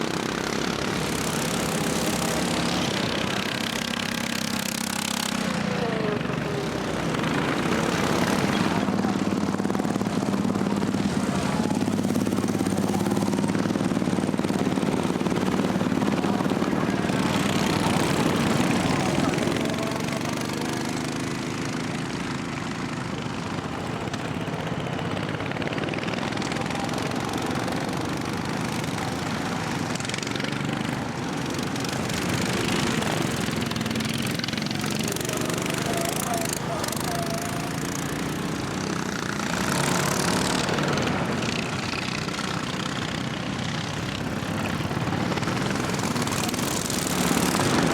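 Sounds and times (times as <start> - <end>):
racing lawnmower engines: 0.0 - 47.9.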